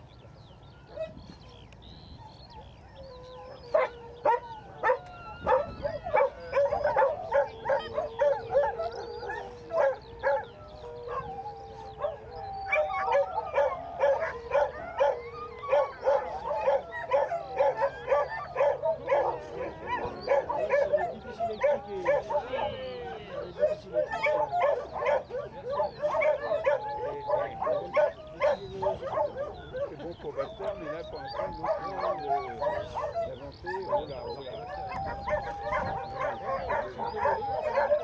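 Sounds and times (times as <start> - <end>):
dogs barking and yelping: 0.0 - 38.0
dog whining or howling: 2.2 - 38.0.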